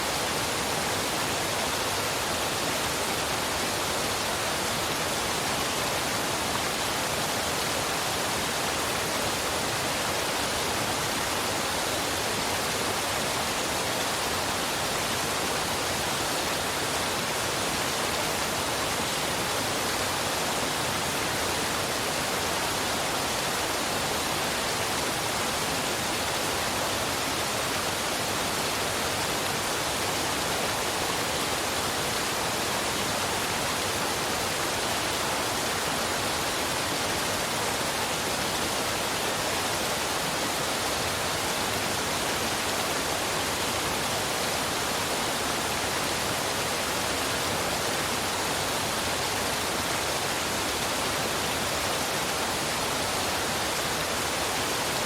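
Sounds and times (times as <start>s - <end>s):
waterfall and river rushing: 0.0s - 55.0s.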